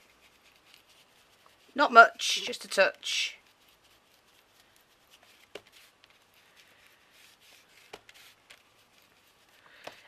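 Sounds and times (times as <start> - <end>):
ink applicator rubbing on card: 0.0 - 9.6.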